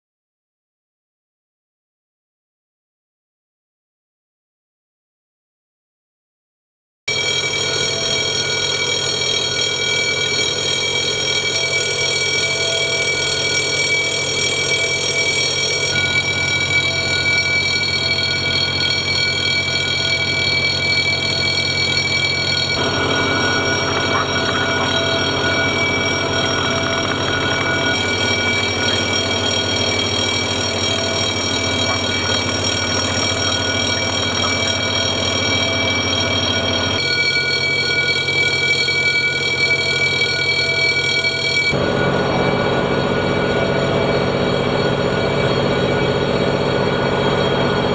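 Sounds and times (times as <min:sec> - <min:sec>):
fire alarm bell ringing: 0:07.1 - 0:47.9.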